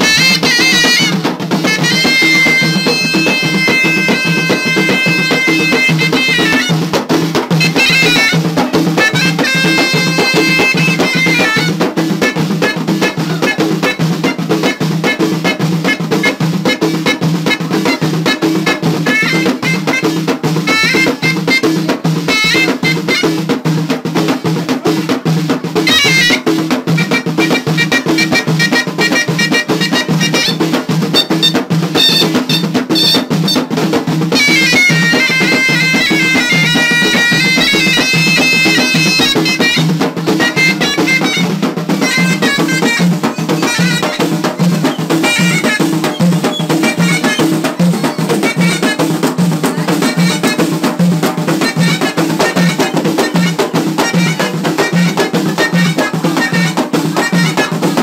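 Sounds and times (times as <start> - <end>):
frame drums beating: 0.0 - 58.0
shawm playing folk melody: 0.0 - 58.0.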